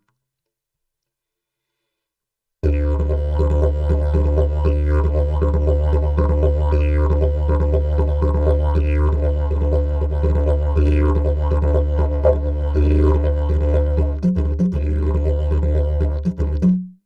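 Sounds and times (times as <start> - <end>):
didgeridoo drone: 2.6 - 16.7.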